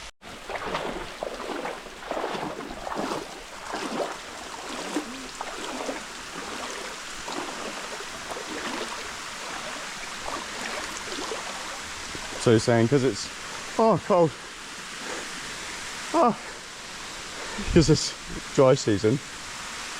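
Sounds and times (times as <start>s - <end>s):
stream splashing over rocks: 0.2s - 17.9s.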